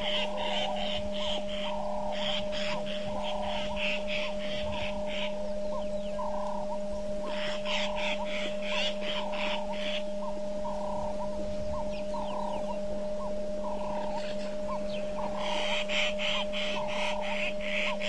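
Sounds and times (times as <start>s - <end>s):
constant hum: 0.0s - 18.0s
high-pitched animal calls: 0.0s - 18.0s
pulsing lower animal calls: 0.0s - 18.0s.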